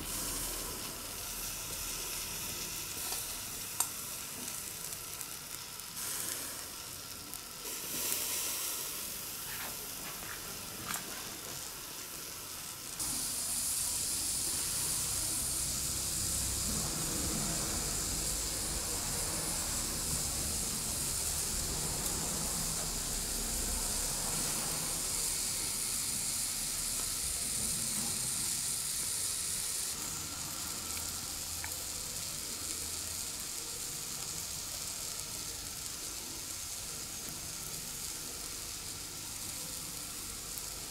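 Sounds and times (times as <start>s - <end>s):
chestnuts sizzling on a grill: 0.0s - 40.9s.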